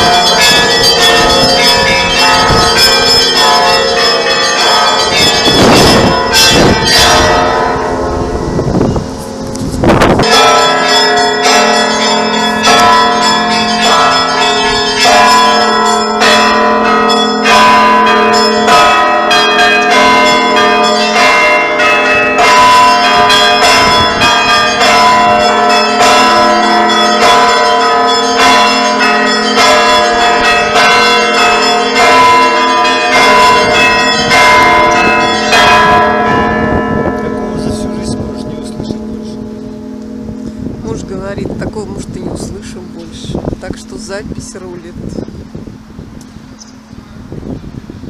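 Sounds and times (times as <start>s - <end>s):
church bells pealing: 0.0s - 47.8s.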